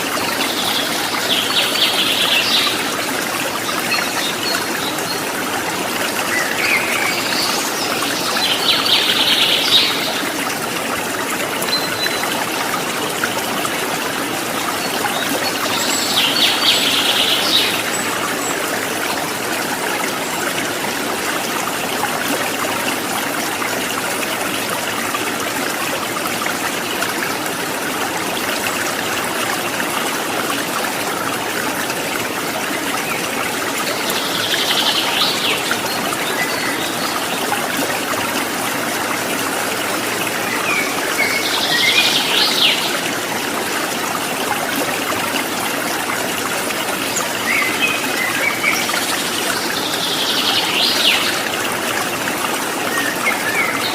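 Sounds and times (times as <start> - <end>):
water trickling and splashing: 0.0 - 53.9.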